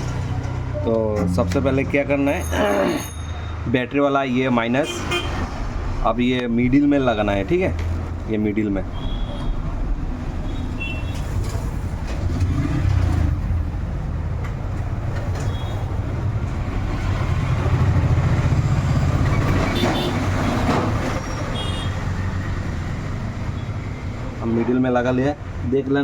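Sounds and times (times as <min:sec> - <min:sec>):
low rumble of road traffic: 0:00.0 - 0:26.0.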